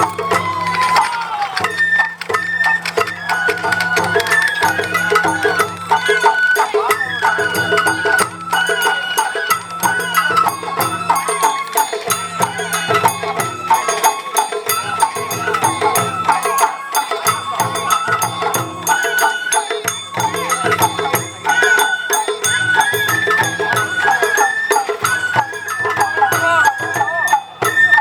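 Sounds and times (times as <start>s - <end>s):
bamboo flute melody: 0.0s - 28.0s
taiko drums: 0.0s - 28.0s.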